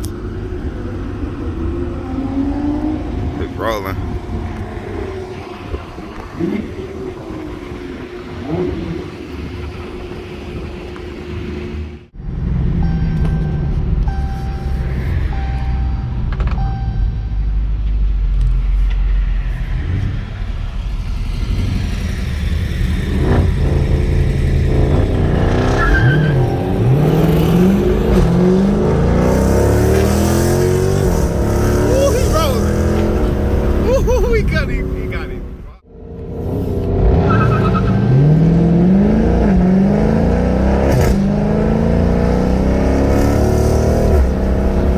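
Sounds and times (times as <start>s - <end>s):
car engines revving: 0.0s - 44.9s.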